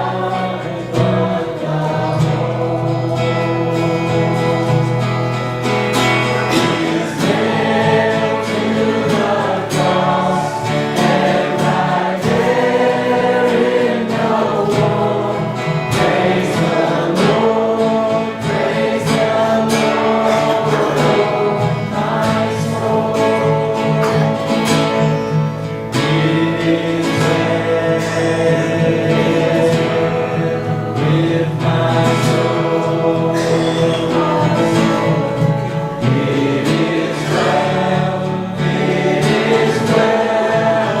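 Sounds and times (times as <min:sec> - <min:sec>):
group singing a hymn: 0:00.0 - 0:41.0
guitar accompaniment: 0:00.0 - 0:41.0.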